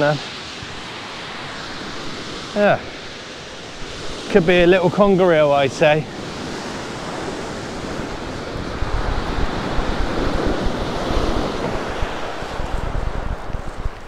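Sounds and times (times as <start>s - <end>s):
surf washing on shingle: 0.0s - 14.0s
wind buffeting microphone: 0.0s - 14.0s.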